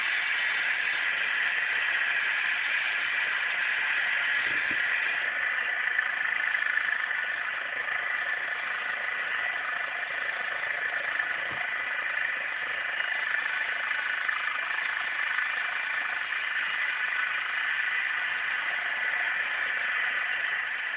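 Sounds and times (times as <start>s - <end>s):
helicopter engine and rotor: 0.0s - 20.9s.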